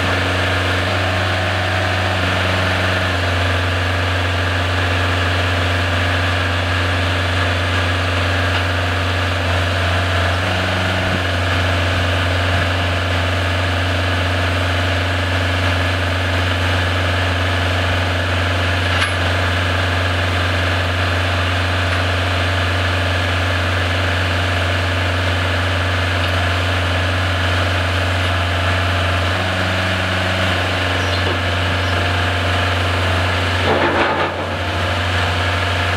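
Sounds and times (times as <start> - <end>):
diesel truck engine humming: 0.0 - 35.9.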